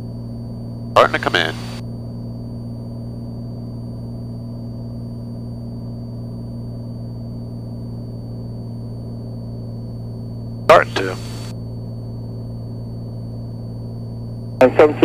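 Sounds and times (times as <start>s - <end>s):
airplane engine drone in cabin: 0.0s - 15.0s
faint high whine: 0.0s - 15.0s.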